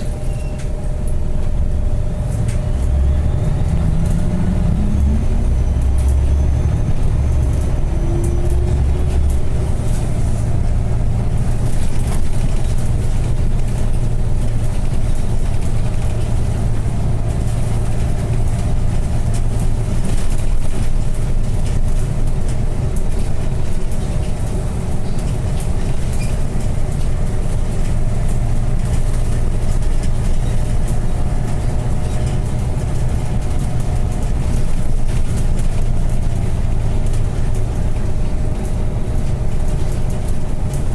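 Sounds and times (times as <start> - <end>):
bus engine drone: 0.0 - 40.9
road noise: 0.0 - 40.9.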